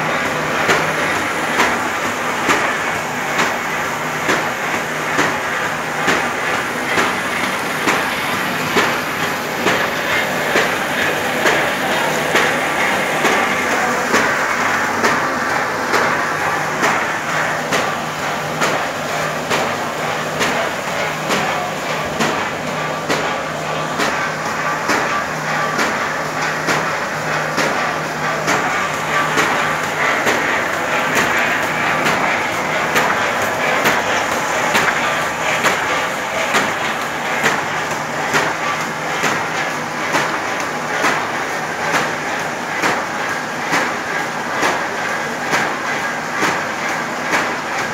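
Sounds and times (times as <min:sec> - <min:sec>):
paper cutting machine whirring: 0:00.0 - 0:41.9.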